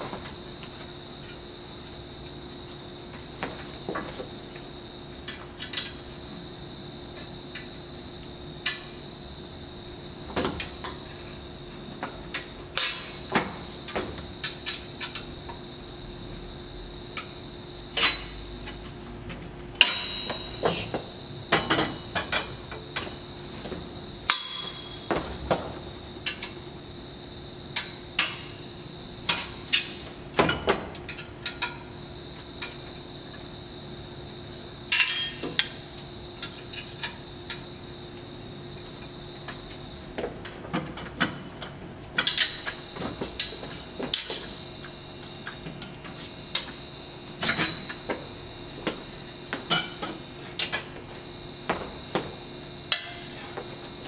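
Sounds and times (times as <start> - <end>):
faint high-pitched whine and hum: 0.0 - 54.0.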